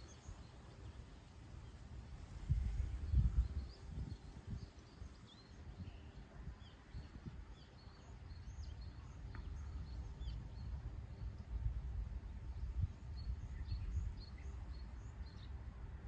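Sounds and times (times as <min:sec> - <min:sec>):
small birds chirping: 0:00.0 - 0:15.8
wind rumble on microphone: 0:01.2 - 0:16.0.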